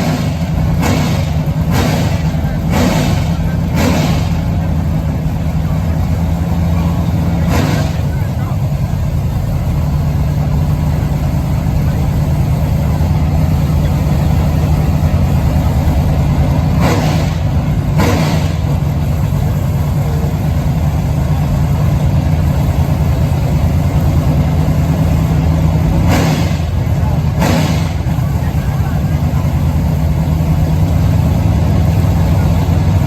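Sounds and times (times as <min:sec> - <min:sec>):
car engine idling: 0:00.0 - 0:33.0
short sharp engine bursts: 0:00.0 - 0:33.0.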